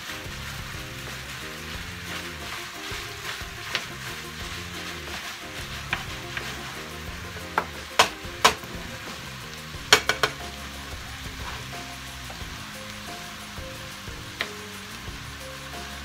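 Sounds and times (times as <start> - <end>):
ground meat sizzling: 0.0 - 16.0
spatula knocking and scraping pan: 0.0 - 16.0.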